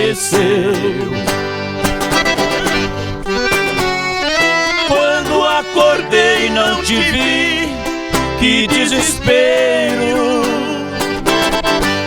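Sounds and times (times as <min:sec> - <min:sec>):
accordion-like melody: 0:00.0 - 0:12.0
guitar strums: 0:00.0 - 0:12.0
person singing with vibrato: 0:00.0 - 0:12.0.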